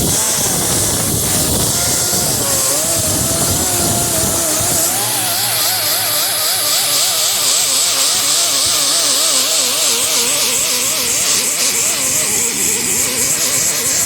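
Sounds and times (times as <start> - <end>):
gritty hiss: 0.0 - 14.0
power tool disc grinding paint off metal: 0.0 - 14.0.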